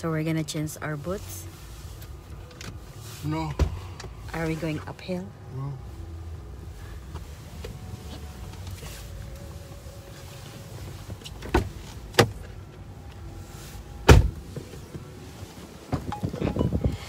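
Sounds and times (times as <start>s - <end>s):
car rumbling from inside cabin: 0.0s - 17.0s.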